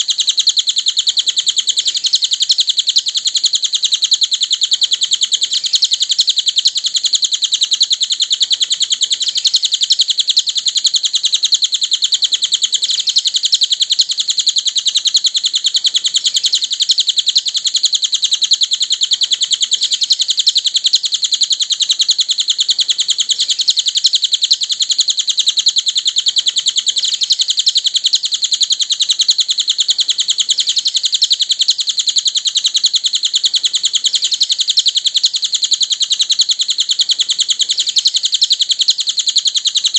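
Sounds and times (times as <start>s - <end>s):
bird fast high-pitched trill: 0.0s - 39.9s.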